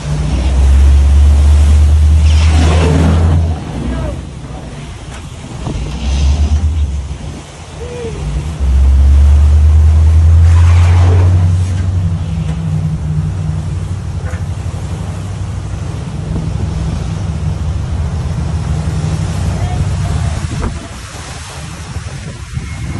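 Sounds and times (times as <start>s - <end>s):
wind on microphone: 0.0s - 15.2s, 15.8s - 22.9s
diesel engine rumbling: 0.0s - 22.9s
water rushing along hulls: 0.0s - 22.9s.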